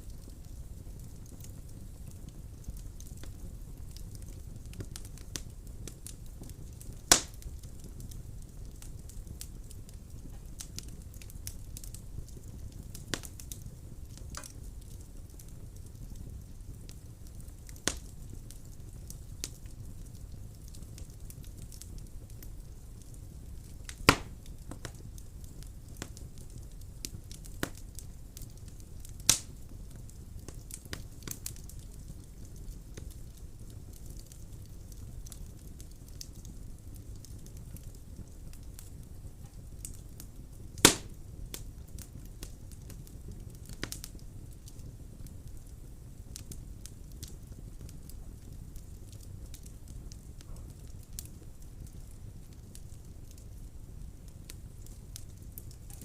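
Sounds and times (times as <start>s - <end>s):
fire crackles: 0.0s - 56.0s
rumble of flames: 0.0s - 56.0s
loud sharp pops from burning wood: 0.1s - 56.0s.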